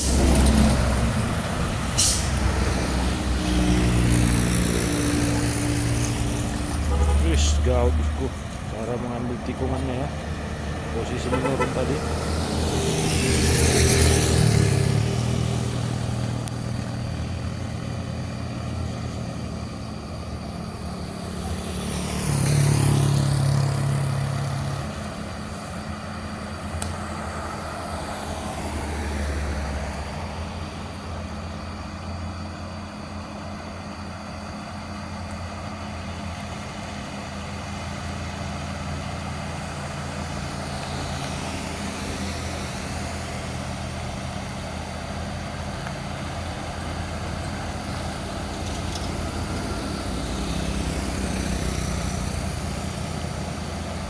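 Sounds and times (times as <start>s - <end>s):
heavy vehicles passing: 0.0s - 54.0s.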